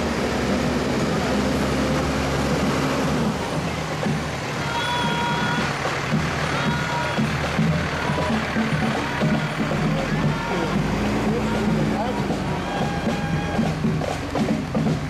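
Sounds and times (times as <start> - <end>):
truck diesel engine passing: 0.0 - 15.0.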